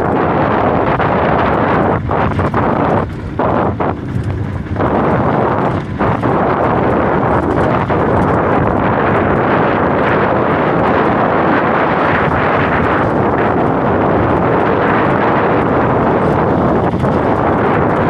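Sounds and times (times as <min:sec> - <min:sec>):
vehicle rumble on rough road: 0:00.0 - 0:18.0
wind buffeting microphone: 0:00.0 - 0:18.0.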